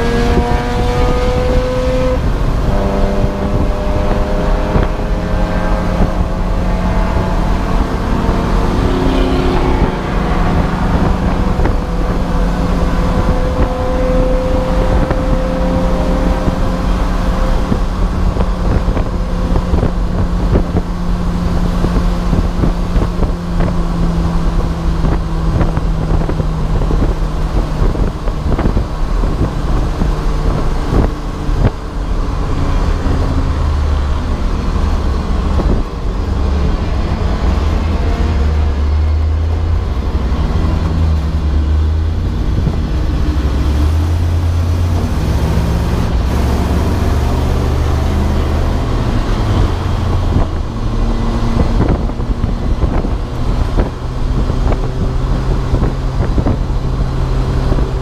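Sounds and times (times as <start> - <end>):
race car engine under load: 0.0 - 58.0
wind and road noise: 0.0 - 58.0.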